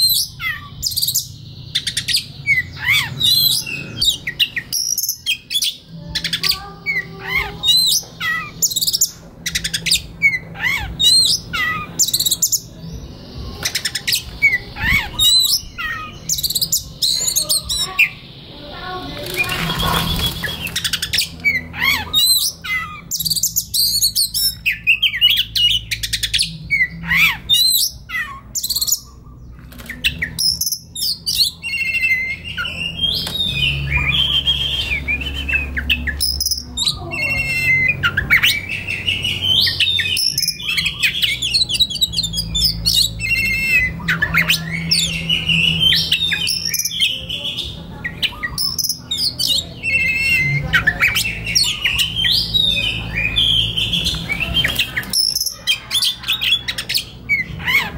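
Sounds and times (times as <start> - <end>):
bird singing: 0.0 - 57.9.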